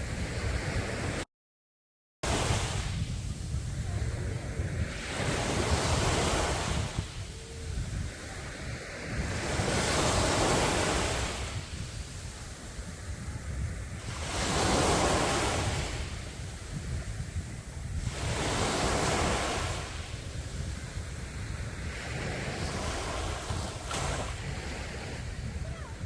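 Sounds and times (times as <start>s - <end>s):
wind rumble on microphone: 0.0s - 1.2s, 2.2s - 26.0s
sea waves breaking on beach: 2.2s - 26.0s.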